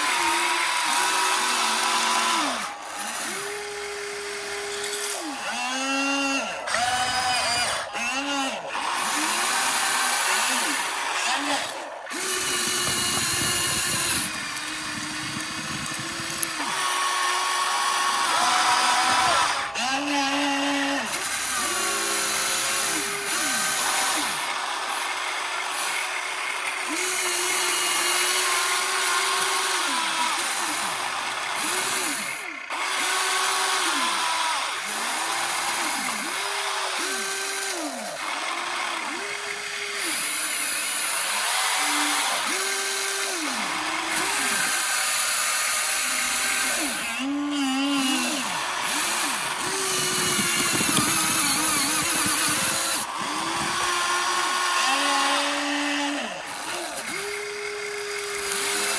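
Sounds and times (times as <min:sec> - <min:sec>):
hydraulic pump whining: 0:00.0 - 0:58.9.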